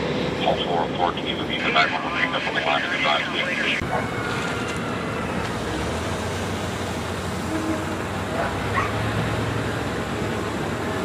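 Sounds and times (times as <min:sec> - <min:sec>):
low engine hum: 0:00.0 - 0:11.0
outdoor background noise: 0:00.0 - 0:11.0.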